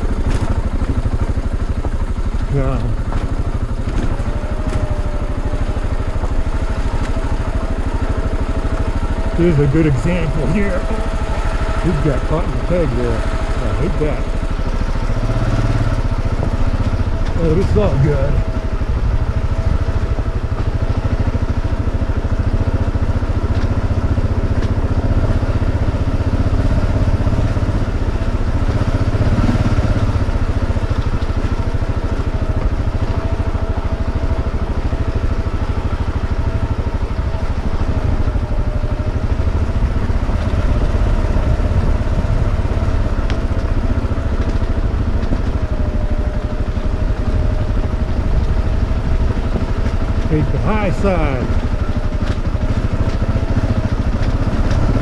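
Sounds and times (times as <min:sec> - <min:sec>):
motorcycle engine running at low revs: 0:00.0 - 0:55.0.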